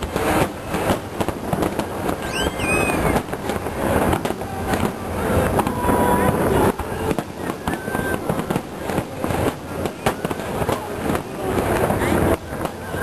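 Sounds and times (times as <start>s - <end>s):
firework whistle: 0.0s - 13.0s
fireworks bangs and crackles: 0.0s - 13.0s.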